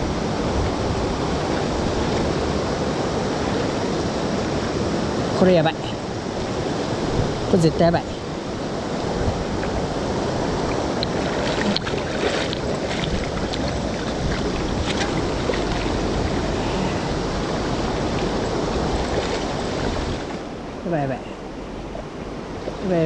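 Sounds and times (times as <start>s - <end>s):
river current rushing: 0.0s - 23.0s.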